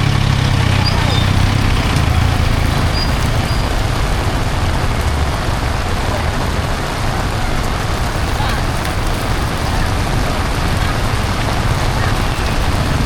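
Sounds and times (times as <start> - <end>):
heavy rain on a street: 0.0 - 13.0
passing traffic rumble: 0.0 - 13.0.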